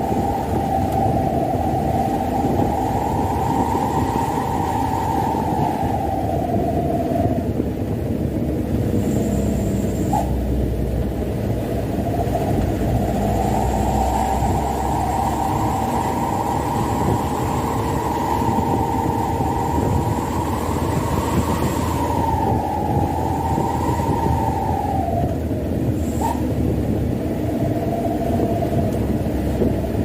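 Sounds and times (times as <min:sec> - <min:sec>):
engine whine: 0:00.0 - 0:30.0
truck engine and road rumble: 0:00.0 - 0:30.0.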